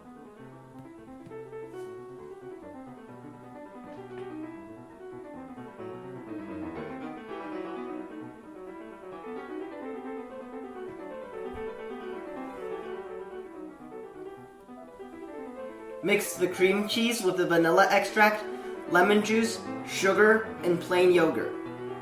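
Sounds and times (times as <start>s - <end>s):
classical piano piece: 0.0s - 22.0s.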